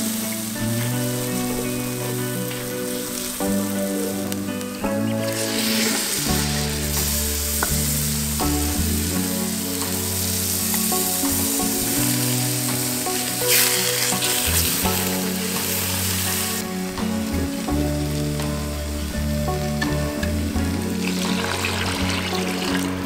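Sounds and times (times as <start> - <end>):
background music with held notes: 0.0 - 23.0
onions sizzling in a pot: 0.0 - 23.0.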